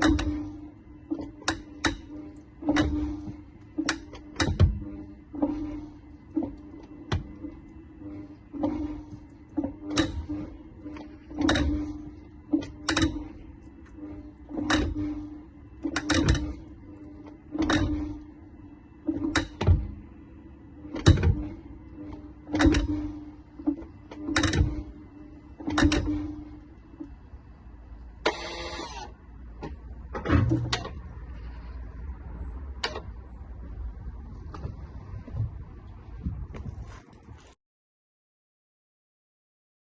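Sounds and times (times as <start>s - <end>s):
steady low hum: 0.0s - 37.5s.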